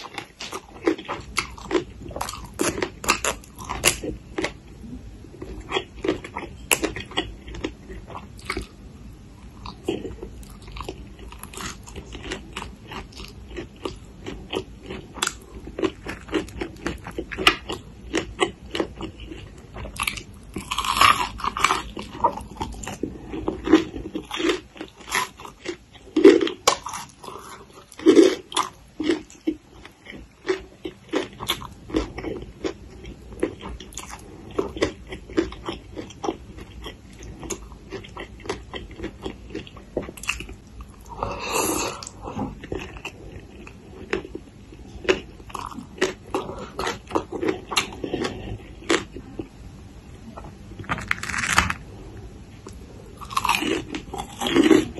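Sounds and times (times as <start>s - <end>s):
crunchy chewing of salad: 0.0s - 49.6s, 50.4s - 54.9s.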